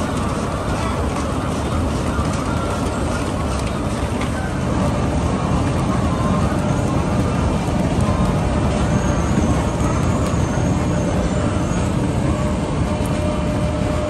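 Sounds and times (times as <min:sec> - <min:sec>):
conveyor belts rumbling: 0:00.0 - 0:14.0.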